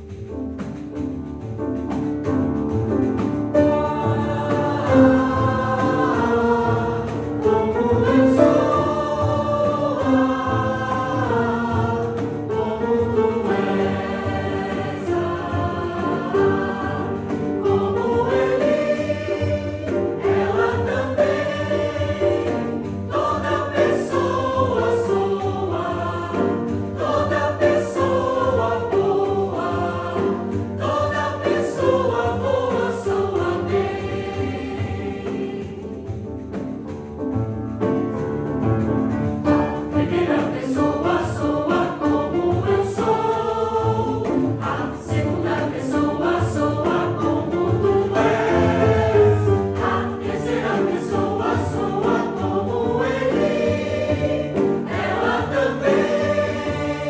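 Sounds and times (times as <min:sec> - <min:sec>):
grand piano accompaniment: 0:00.0 - 0:57.0
mixed-voice choir singing: 0:02.4 - 0:36.7, 0:39.4 - 0:57.0.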